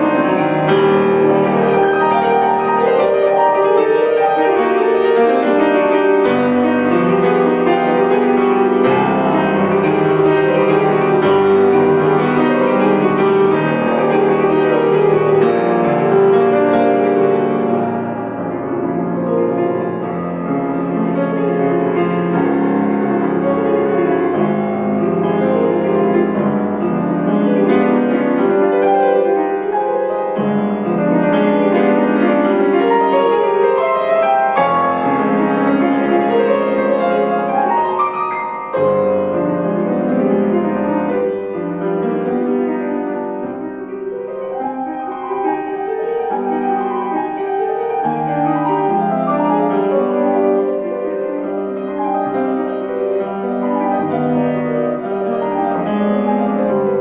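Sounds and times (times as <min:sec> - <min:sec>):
classical piano piece: 0:00.0 - 0:57.0.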